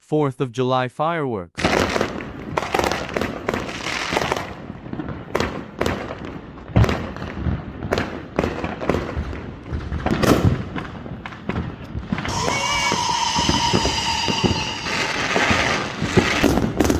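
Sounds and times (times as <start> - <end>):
fireworks bangs: 1.6 - 16.9
fireworks crackling: 1.6 - 16.9.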